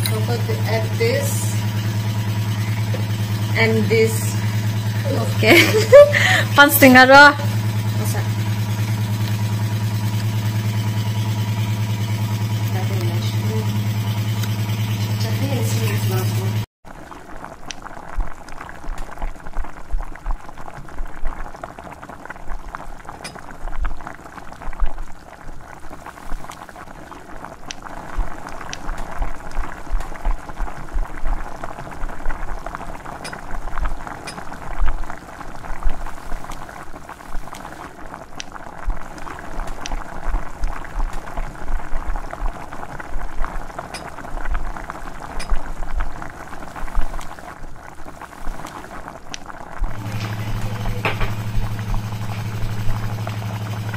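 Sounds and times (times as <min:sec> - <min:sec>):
food bubbling in pot: 0:00.0 - 0:53.9.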